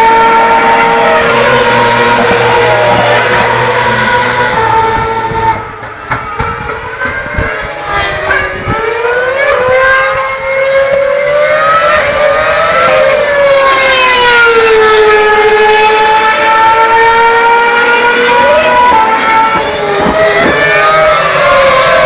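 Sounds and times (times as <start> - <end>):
racing car engine high revs: 0.0 - 5.8, 6.5 - 22.0.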